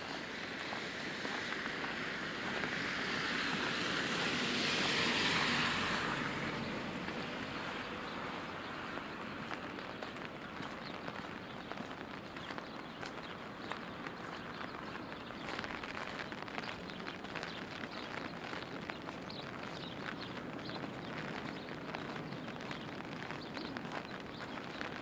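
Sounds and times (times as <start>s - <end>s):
rain on wet pavement: 0.0s - 25.0s
tyres hissing on wet street: 0.0s - 25.0s.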